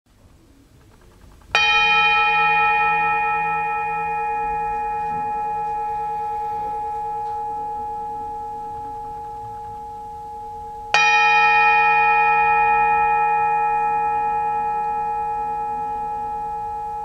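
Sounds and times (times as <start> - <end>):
singing bowl struck and ringing: 1.5 - 17.0.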